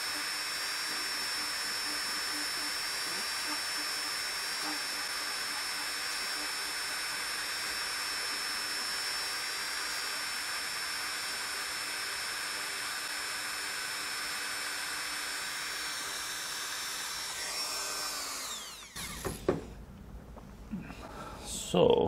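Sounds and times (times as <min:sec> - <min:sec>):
rotary tool whining: 0:00.0 - 0:19.8.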